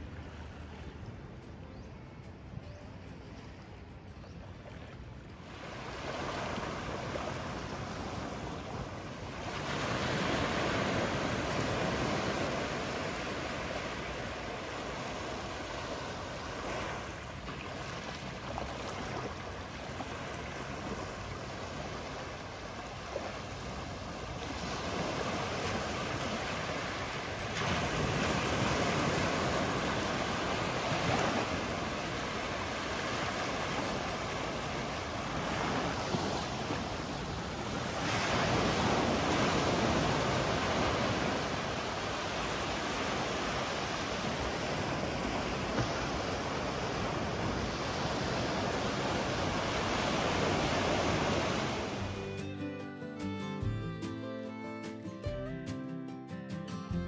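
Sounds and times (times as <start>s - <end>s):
surf washing onto beach: 5.4s - 52.4s.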